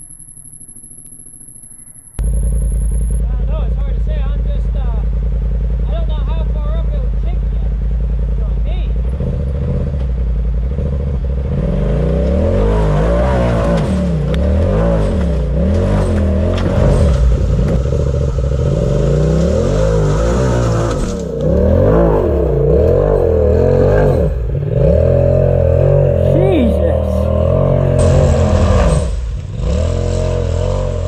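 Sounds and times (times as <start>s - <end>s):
off-road vehicle engine revving: 2.2s - 31.0s.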